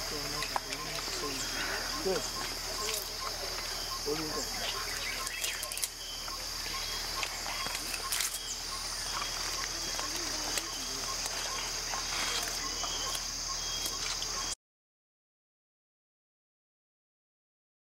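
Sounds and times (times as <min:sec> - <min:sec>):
animals chewing plant stems: 0:00.0 - 0:14.5
insects droning: 0:00.0 - 0:14.6.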